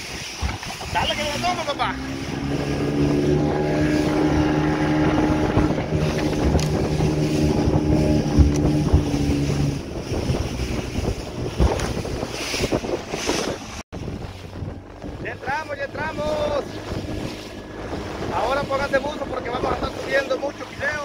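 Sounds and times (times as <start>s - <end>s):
boat motor droning: 0.0s - 21.0s
hull thumping on waves: 0.0s - 21.0s
water rushing past hull: 0.0s - 21.0s
wind buffeting microphone: 0.0s - 21.0s.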